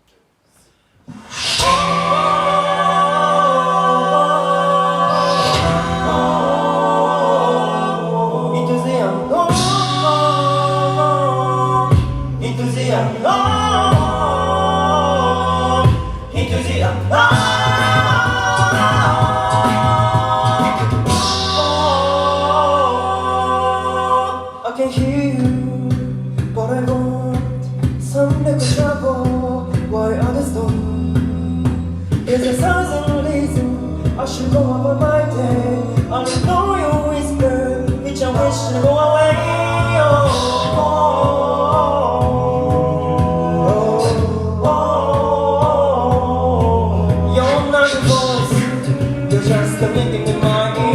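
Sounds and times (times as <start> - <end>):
vocal-percussion beat: 0.6 - 50.9
male a cappella ensemble singing: 1.1 - 50.9.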